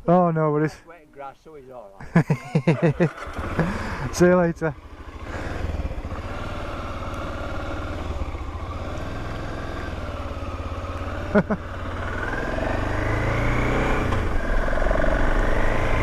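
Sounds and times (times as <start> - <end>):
motorcycle engine: 2.1 - 16.0.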